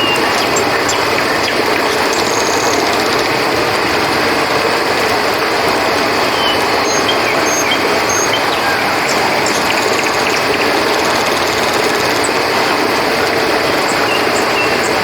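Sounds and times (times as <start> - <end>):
crickets chirping: 0.0 - 15.0
river water flowing: 0.0 - 15.0.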